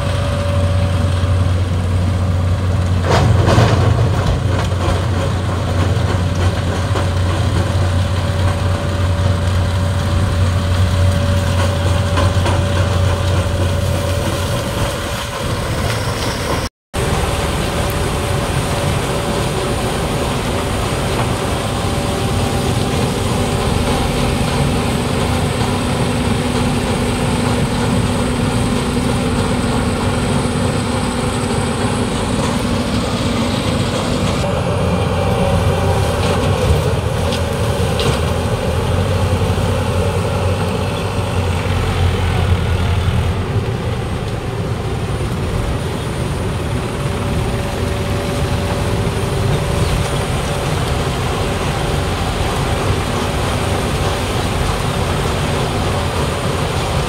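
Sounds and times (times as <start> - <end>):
deep low drone: 0.0 - 57.0
diesel engines running under load: 0.0 - 57.0.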